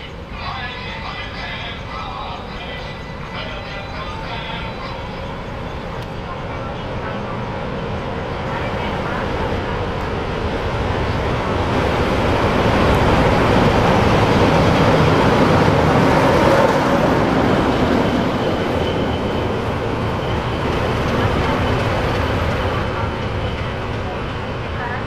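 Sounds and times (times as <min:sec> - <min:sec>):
diesel locomotive passing: 0:00.0 - 0:25.0.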